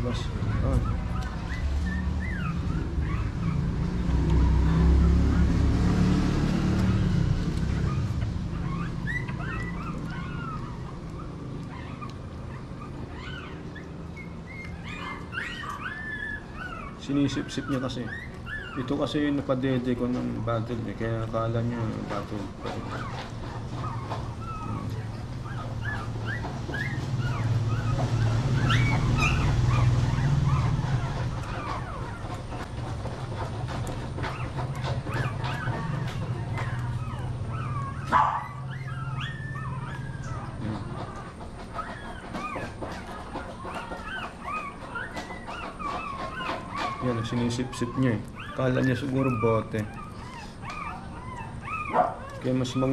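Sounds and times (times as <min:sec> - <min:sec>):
puppy whimpering: 0:00.0 - 0:52.9.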